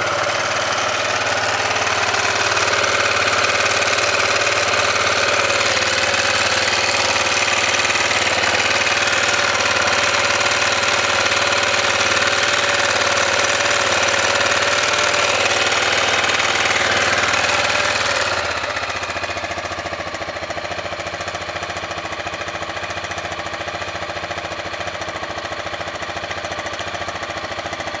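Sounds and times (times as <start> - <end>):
single-cylinder engine knocking: 0.0 - 28.0.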